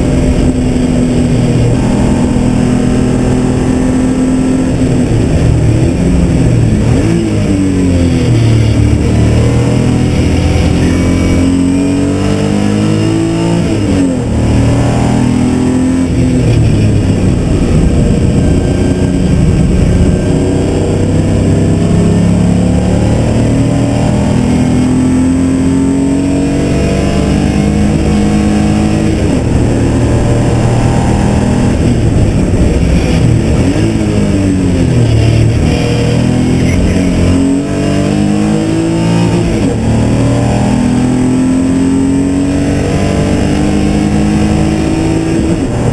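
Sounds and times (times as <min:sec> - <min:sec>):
race car engine accelerating: 0:00.0 - 0:45.9.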